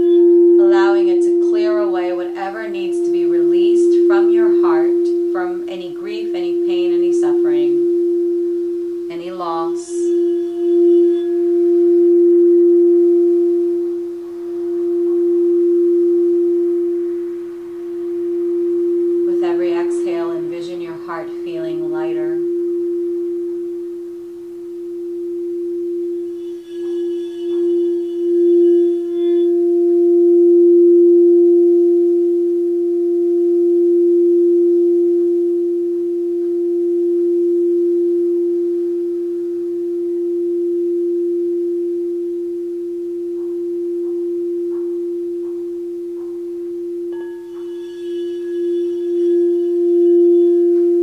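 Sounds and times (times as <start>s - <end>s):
high overtone shimmer with ticks: 0.0s - 51.0s
singing bowl ringing: 0.0s - 51.0s.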